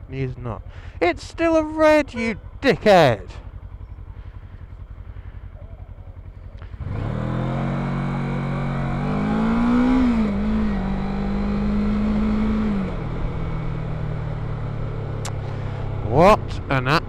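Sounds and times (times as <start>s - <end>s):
vehicle engine revving: 0.7s - 17.0s.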